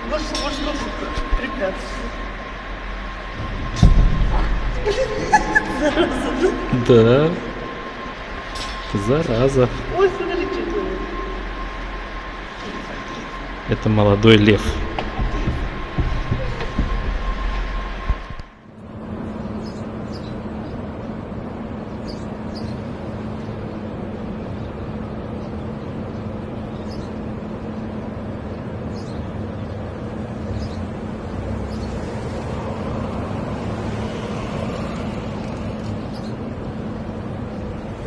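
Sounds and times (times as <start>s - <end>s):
running machine rush and hum: 0.0s - 38.0s.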